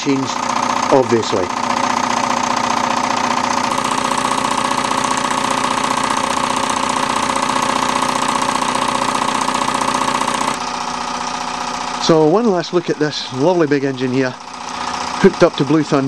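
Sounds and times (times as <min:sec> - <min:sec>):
toy steam engine running: 0:00.0 - 0:16.0.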